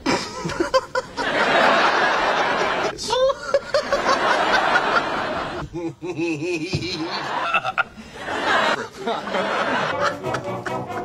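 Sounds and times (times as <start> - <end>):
studio audience laughing: 0.1 - 11.0.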